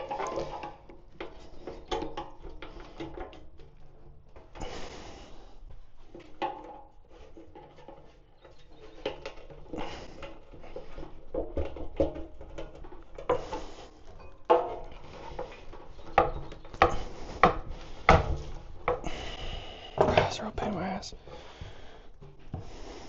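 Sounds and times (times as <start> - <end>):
hand tools clicking and knocking: 0.0 - 23.0.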